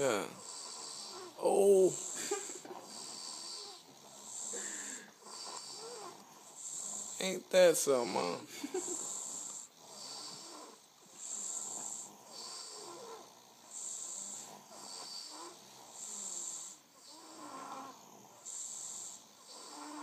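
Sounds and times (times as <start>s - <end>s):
higher hissing snore: 0.0s - 20.0s
low rough snore: 0.0s - 20.0s.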